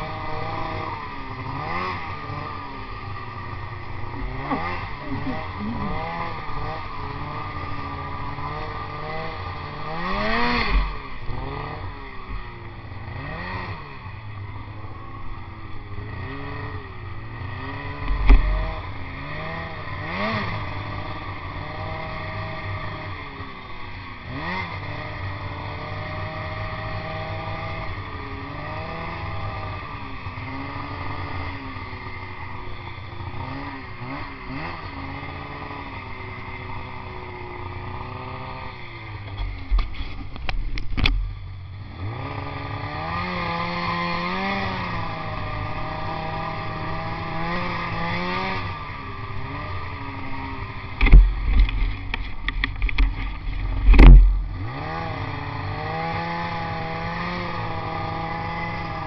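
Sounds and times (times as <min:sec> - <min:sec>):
snowmobile engine revving: 0:00.0 - 0:40.3, 0:41.8 - 0:59.0.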